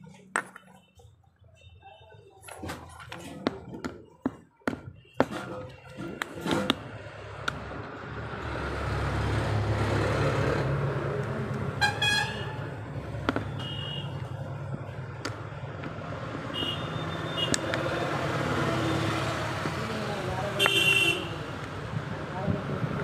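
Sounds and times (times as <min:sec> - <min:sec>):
vehicle engine rumbling: 0:02.5 - 0:23.0.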